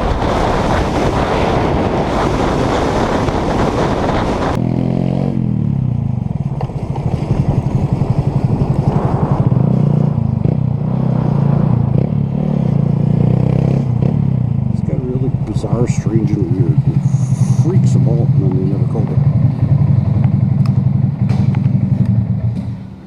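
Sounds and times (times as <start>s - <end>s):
wind buffeting microphone: 0.0s - 4.7s, 5.7s - 22.7s
vehicle engine throbbing: 0.0s - 23.0s.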